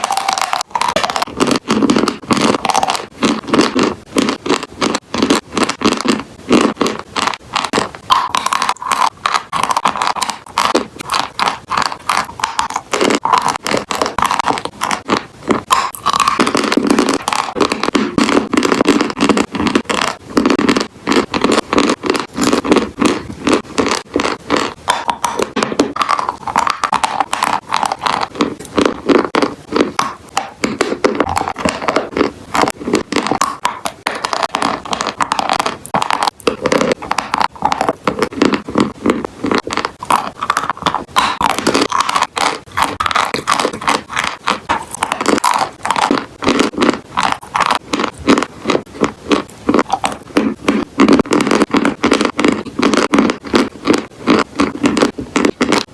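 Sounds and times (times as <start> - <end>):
chalk and clay crunching: 0.0 - 55.9.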